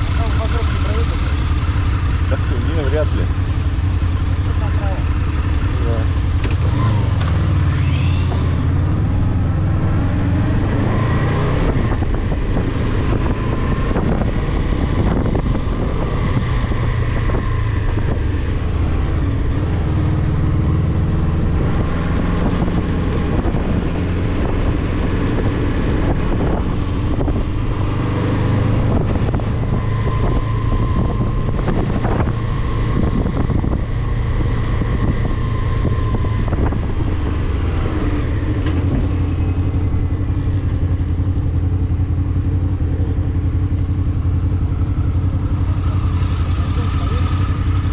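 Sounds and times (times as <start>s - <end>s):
motorcycle engine running: 0.0s - 47.9s
wind rushing over microphone: 6.5s - 46.0s.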